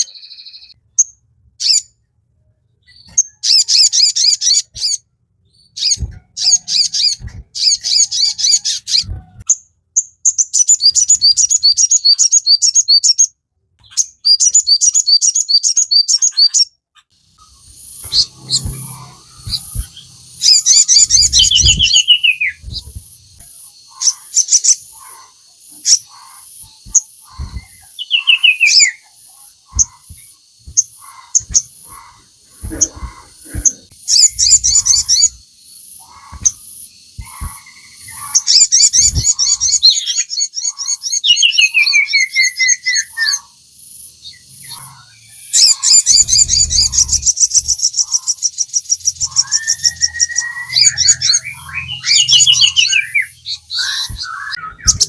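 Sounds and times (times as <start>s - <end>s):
songbird trills and whistles: 0.0s - 1.9s, 2.8s - 16.7s, 17.4s - 55.0s.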